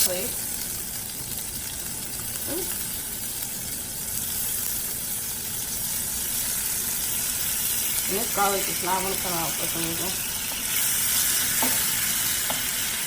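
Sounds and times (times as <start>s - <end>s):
butter sizzling in skillet: 0.0s - 13.0s.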